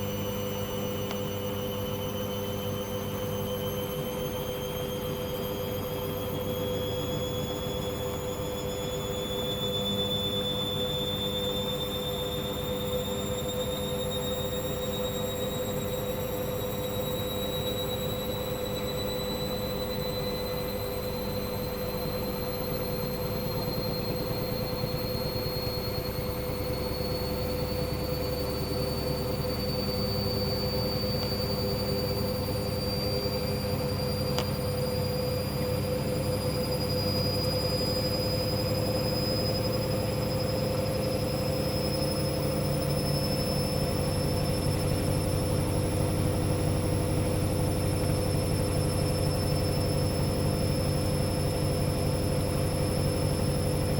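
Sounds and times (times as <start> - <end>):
high motor whine: 0.0 - 53.9
washing machine spin cycle: 0.0 - 53.9.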